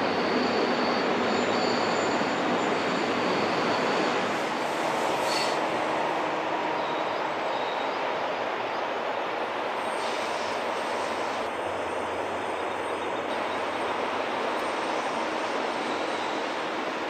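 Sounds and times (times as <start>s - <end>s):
high wheel squeal: 0.0s - 8.1s, 9.8s - 17.0s
train wheels rolling on rails: 0.0s - 17.0s.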